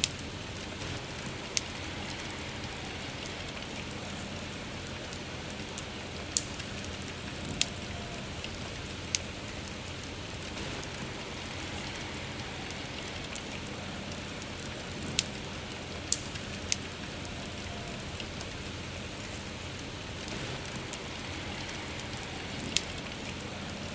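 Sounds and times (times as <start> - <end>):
campfire crackling and popping: 0.0 - 23.9
steady rain falling: 0.0 - 23.9.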